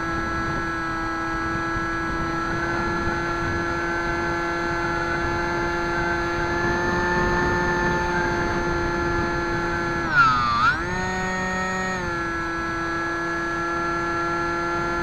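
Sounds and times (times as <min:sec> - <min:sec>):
electric motor whine: 0:00.0 - 0:15.0
wind rumble on microphone: 0:00.0 - 0:15.0.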